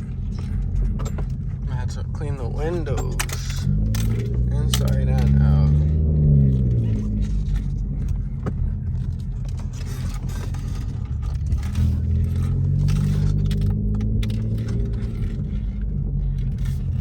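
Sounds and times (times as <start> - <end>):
car exhaust droning: 0.0 - 17.0.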